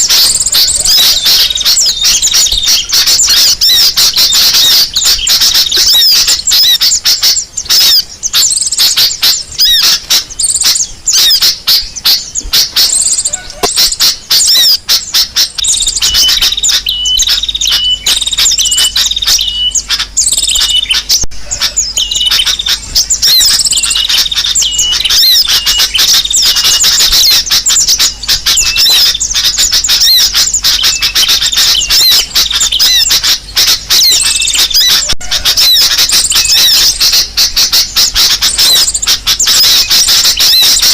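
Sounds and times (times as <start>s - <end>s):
birds chirping rapidly: 0.0s - 40.9s.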